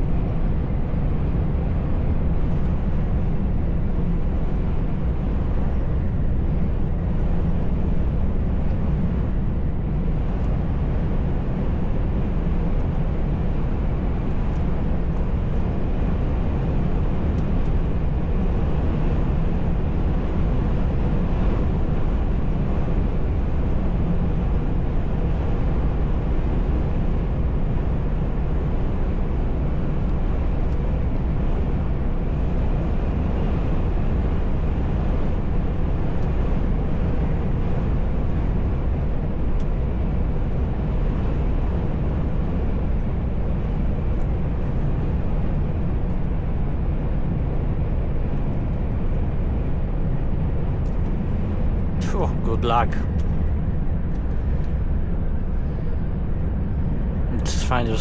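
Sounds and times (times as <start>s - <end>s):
road noise: 0.0s - 58.0s.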